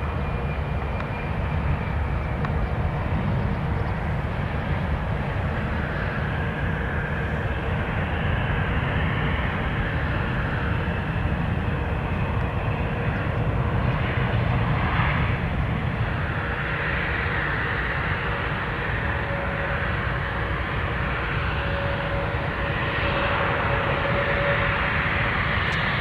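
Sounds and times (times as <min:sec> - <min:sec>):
faint engine whine: 0:00.0 - 0:26.0
jet engines running: 0:00.0 - 0:26.0.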